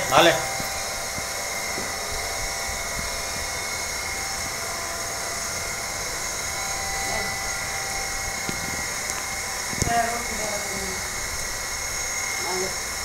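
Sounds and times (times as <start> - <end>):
steady whirring with high whine: 0.0 - 13.0.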